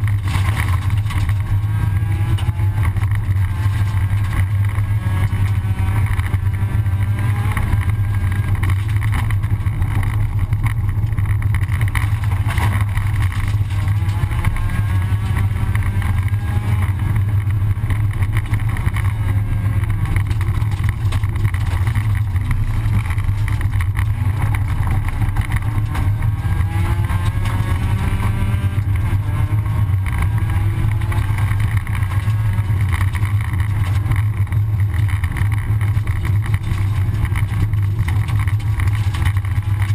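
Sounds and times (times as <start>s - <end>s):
rally car engine revving: 0.0s - 39.9s
rumble of gravel road: 0.0s - 39.9s.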